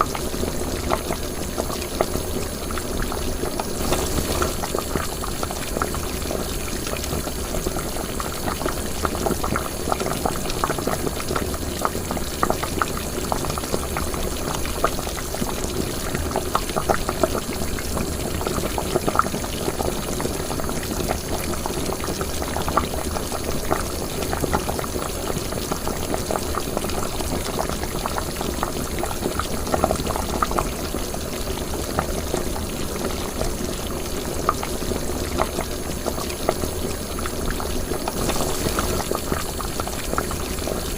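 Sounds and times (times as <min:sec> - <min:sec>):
liquid boiling and bubbling: 0:00.0 - 0:40.9.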